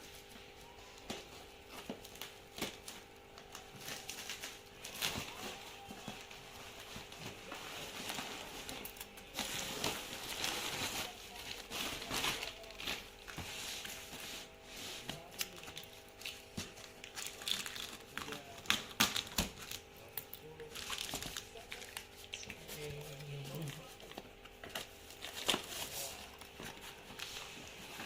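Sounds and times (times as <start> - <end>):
packaging crinkling and rustling: 0.9 - 28.0.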